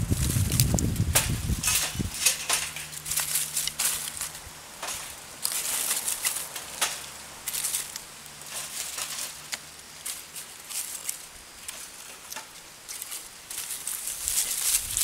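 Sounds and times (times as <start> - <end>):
rustling and crunching: 0.0 - 15.0.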